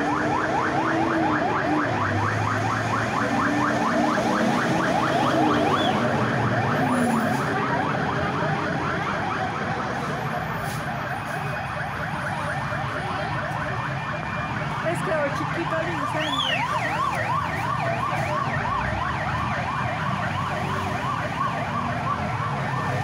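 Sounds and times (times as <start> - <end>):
emergency siren yelping: 0.0 - 23.0.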